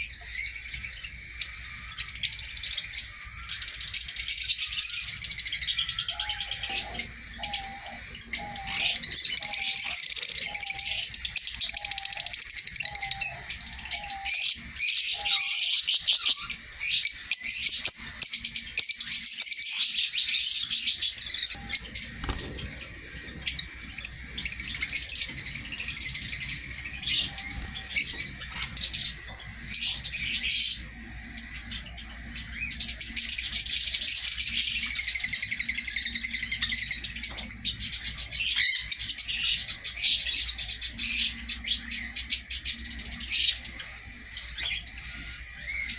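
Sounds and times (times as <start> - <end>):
flock of birds chirping: 0.0 - 45.9.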